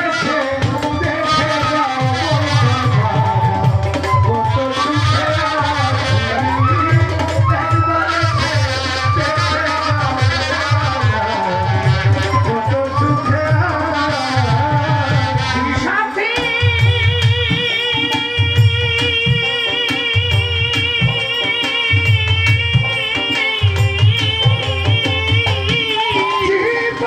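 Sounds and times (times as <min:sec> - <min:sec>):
barrel drum beat: 0:00.0 - 0:27.0
folk melody with bending pitch: 0:00.0 - 0:27.0.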